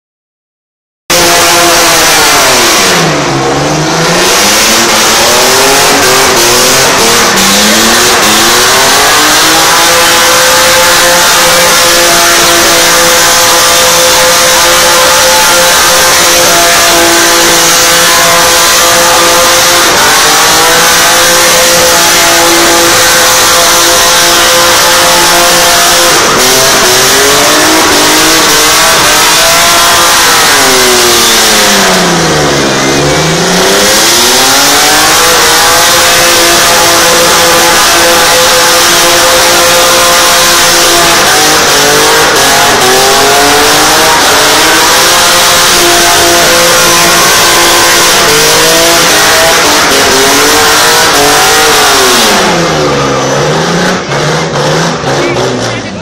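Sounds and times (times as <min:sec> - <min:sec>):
car engine revving hard: 0:01.1 - 0:56.0.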